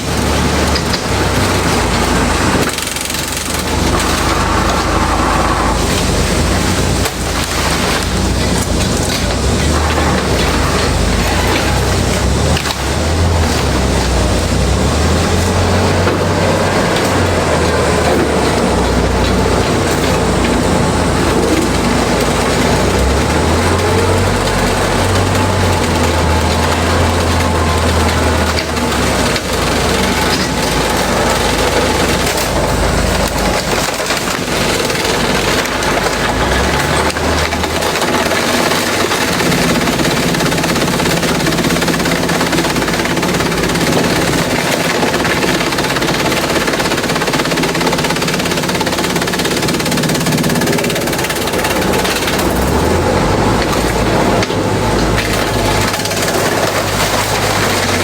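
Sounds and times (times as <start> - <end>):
shredder machine drone: 0.0 - 58.0
wood crushing and splintering: 0.0 - 58.0.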